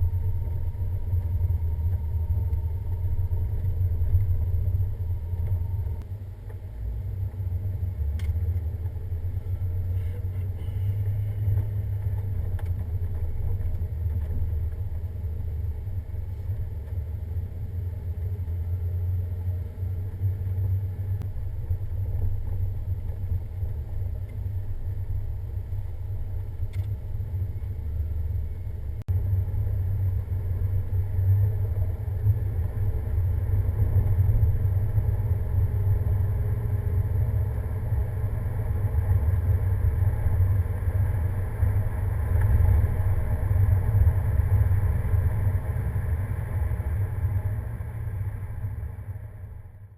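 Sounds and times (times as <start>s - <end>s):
truck engine and road rumble: 0.0s - 49.9s.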